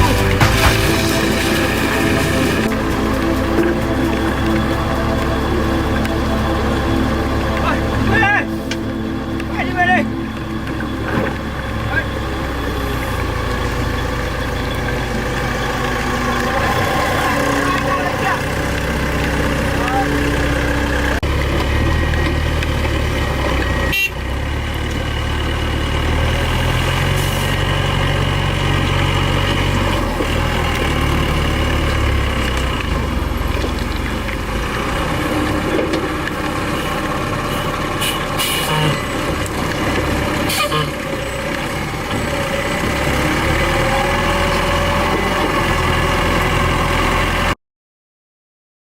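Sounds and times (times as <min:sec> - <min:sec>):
diesel engine rumbling: 0:00.0 - 0:47.6.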